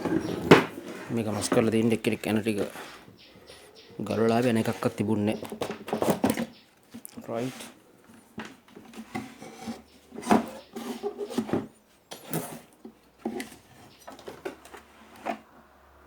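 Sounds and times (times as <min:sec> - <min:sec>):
tools knocking and scraping: 0:00.0 - 0:03.0, 0:04.4 - 0:15.5.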